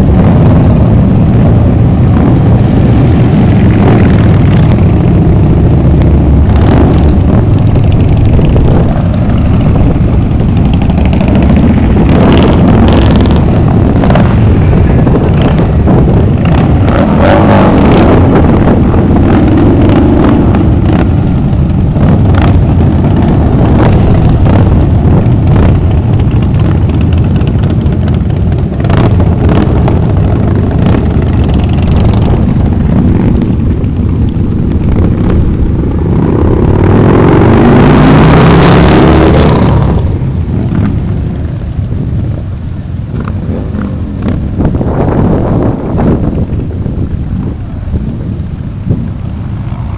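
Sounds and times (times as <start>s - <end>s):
motorcycles riding past: 0.0s - 49.9s.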